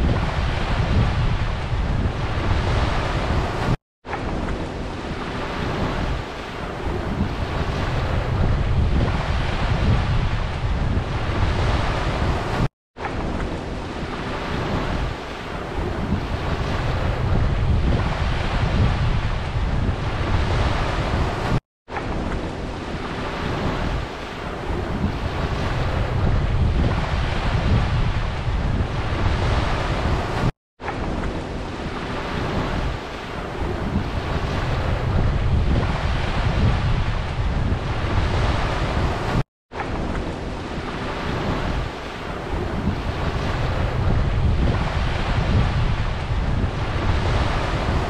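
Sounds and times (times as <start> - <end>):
sea waves washing onto beach: 0.0 - 48.0
wind rumbling on microphone: 0.0 - 48.0.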